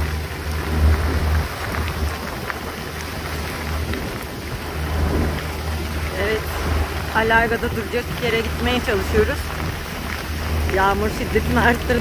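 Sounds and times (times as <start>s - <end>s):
gusting wind rumble: 0.0s - 12.0s
heavy rain pelting: 0.0s - 12.0s.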